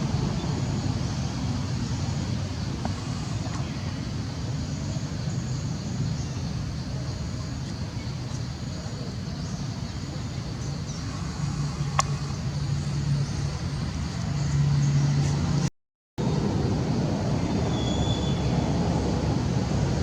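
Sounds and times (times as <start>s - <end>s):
motor vehicle engine rumble: 0.0s - 17.7s.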